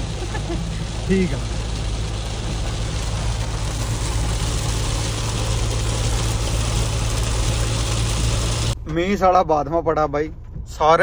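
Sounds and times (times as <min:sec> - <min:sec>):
car cabin drone: 0:00.0 - 0:11.0.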